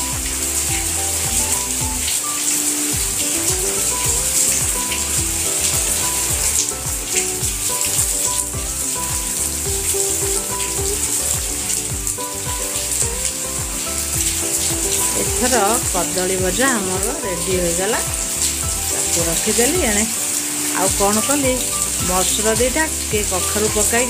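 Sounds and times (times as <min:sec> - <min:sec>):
background music with a beat: 0:00.0 - 0:24.0
banana slices sizzling in oil: 0:00.0 - 0:24.0.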